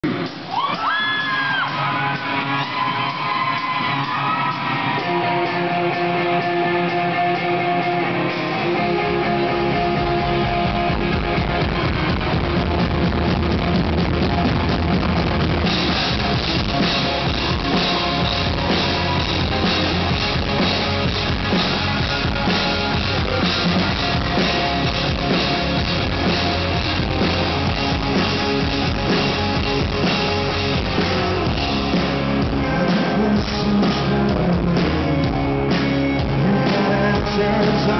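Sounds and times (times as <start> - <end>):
bass guitar: 0.0 - 37.9
drums: 0.0 - 37.9
electric guitar: 0.0 - 37.9.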